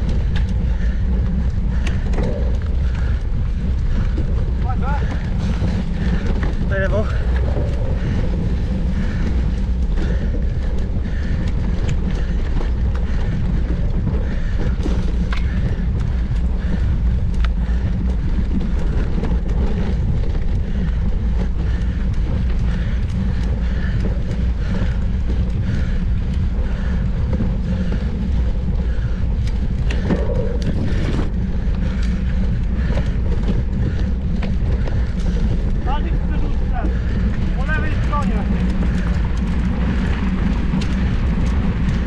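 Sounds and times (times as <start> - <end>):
bike clicks: 0.0 - 42.0
wind rushing over microphone: 0.0 - 42.0.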